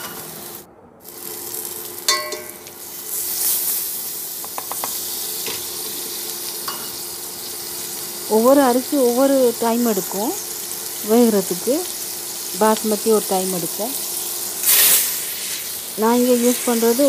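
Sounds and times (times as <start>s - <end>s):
onion sizzling in a pan: 0.0s - 17.0s.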